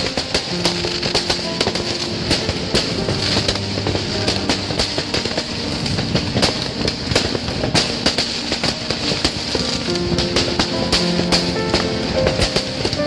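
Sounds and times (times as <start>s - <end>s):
fireworks bangs and crackles: 0.0s - 13.0s
music playing: 0.0s - 13.0s.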